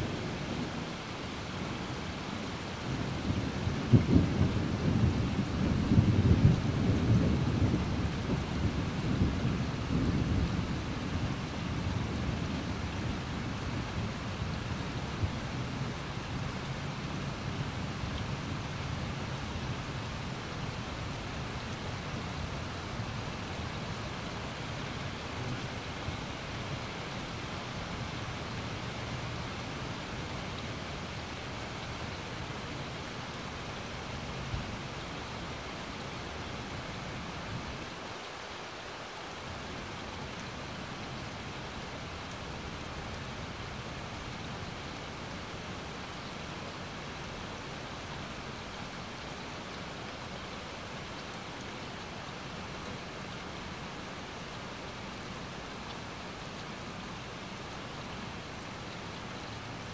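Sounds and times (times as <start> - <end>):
rain falling on grass and trees: 0.0 - 59.9.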